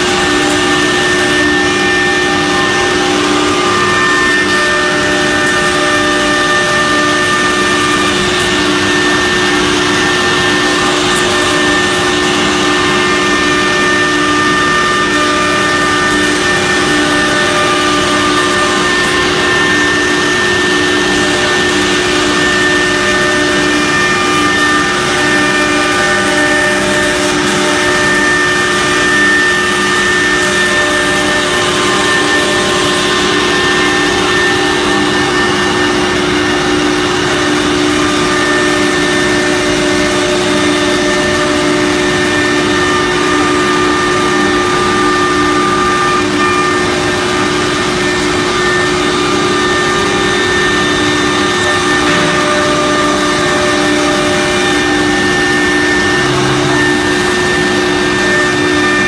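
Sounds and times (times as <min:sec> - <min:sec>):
cnc router whining: 0:00.0 - 0:59.0
dust extraction rushing noise: 0:00.0 - 0:59.0.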